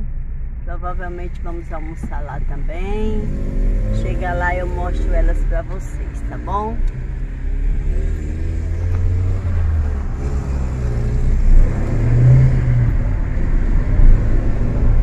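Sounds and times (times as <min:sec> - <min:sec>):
car engine accelerating: 0:00.0 - 0:15.0
road noise: 0:00.0 - 0:15.0.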